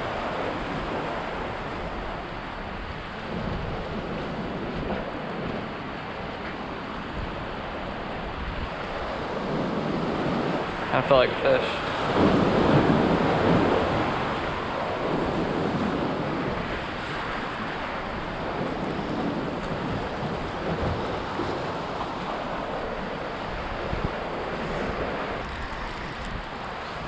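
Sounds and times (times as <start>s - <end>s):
surf washing against rocks: 0.0s - 27.0s
wind on microphone: 0.0s - 27.0s.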